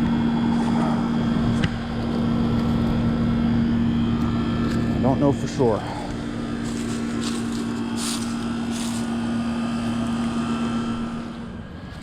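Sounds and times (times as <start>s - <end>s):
compressor humming: 0.0s - 12.0s
fan noise: 0.0s - 12.0s.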